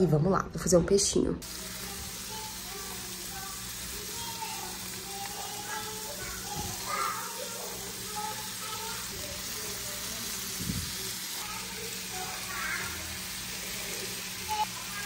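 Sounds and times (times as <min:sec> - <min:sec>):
tomato slices sizzling in a pan: 0:01.4 - 0:15.0.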